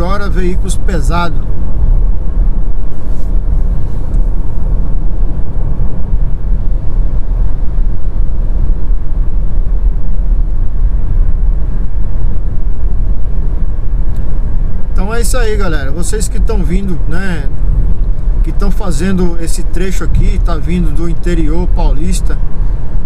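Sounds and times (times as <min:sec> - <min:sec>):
car cabin road rumble: 0:00.0 - 0:23.0.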